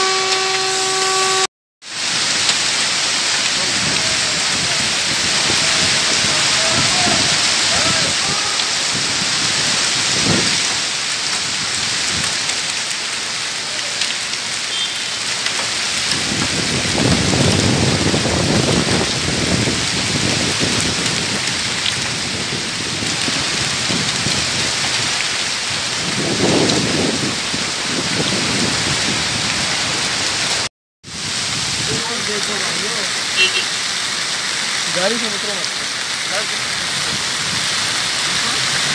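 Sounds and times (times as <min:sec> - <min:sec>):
heavy rain and hail pelting: 0:00.0 - 0:38.9.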